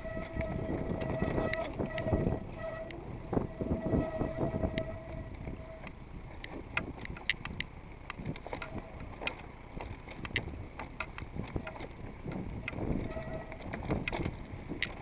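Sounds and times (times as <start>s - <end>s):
tyres rumbling: 0.0s - 15.0s
wind: 0.0s - 15.0s.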